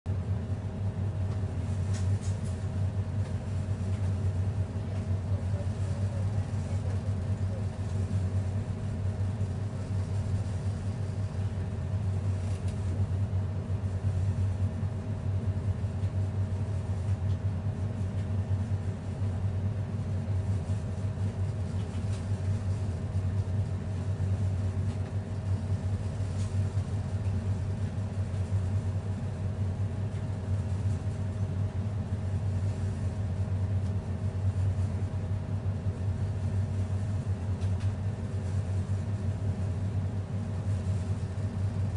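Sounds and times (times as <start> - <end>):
low rumbling hum: 0.1 - 41.9.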